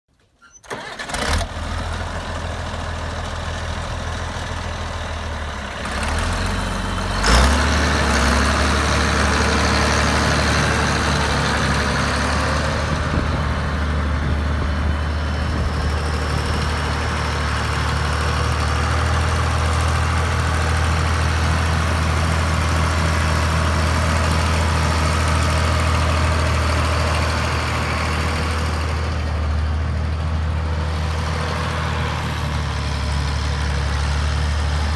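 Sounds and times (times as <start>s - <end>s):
tractor diesel engine running: 0.5s - 34.9s.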